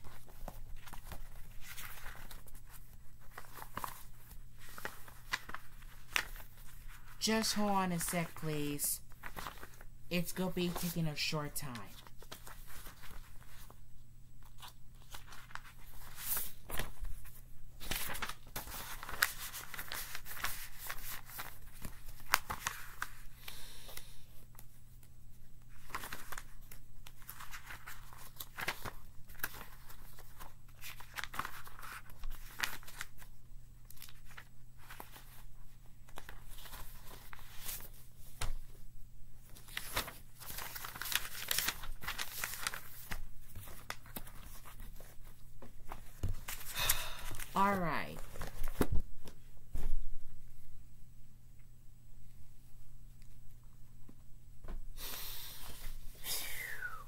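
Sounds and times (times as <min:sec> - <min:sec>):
paper rustling and crinkling: 0:00.0 - 0:50.5.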